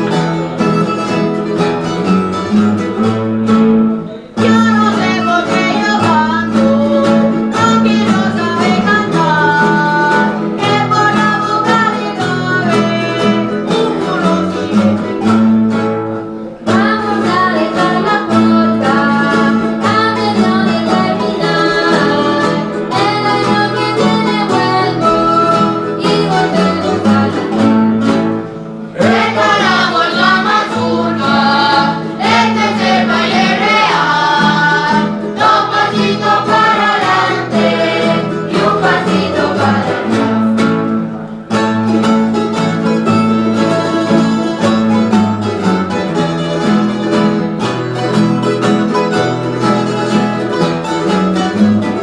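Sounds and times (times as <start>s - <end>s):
folk guitar ensemble: 0.0s - 52.0s.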